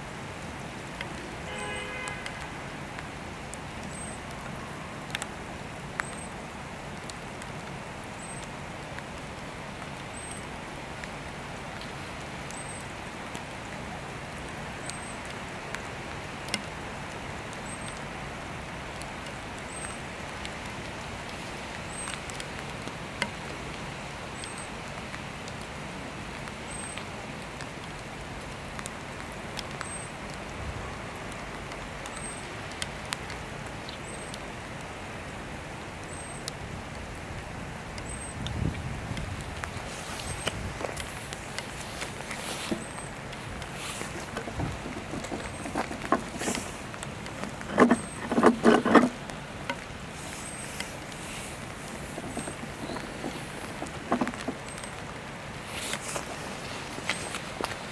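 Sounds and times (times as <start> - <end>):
raindrops tapping nearby: 0.0 - 57.9
steady rain: 0.0 - 57.9.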